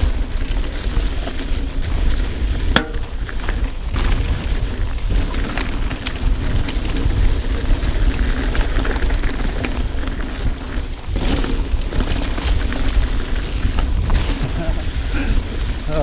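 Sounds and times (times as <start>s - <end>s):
bike rattling over rocks: 0.0s - 16.0s
wind buffeting microphone: 0.0s - 16.0s.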